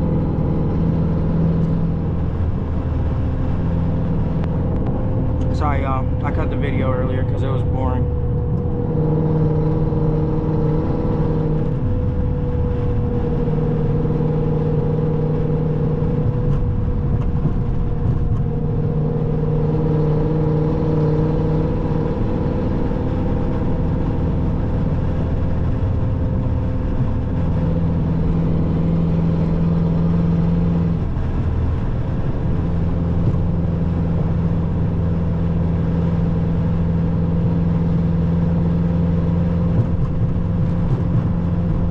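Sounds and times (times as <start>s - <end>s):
car engine drone: 0.0s - 41.9s
road rumble: 0.0s - 41.9s.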